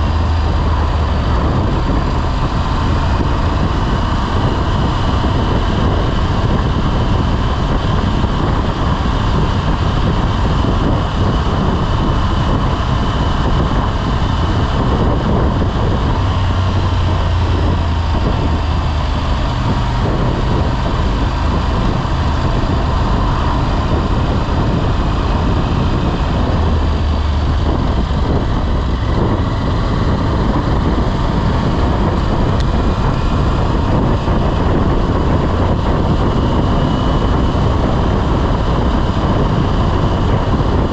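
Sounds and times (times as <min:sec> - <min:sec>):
motorcycle engine drone: 0:00.0 - 0:40.9
wind rush over microphone: 0:00.0 - 0:40.9.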